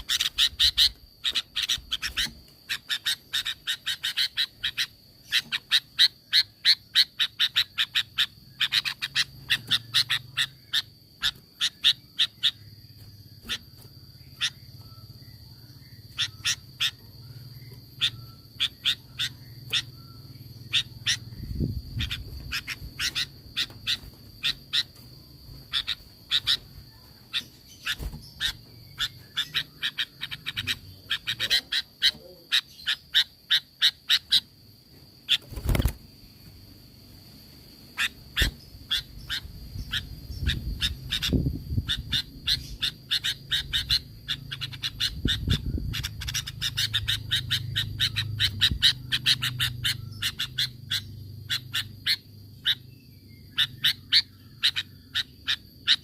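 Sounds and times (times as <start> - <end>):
bird calling in sharp notes: 0.0 - 34.5, 38.0 - 56.0.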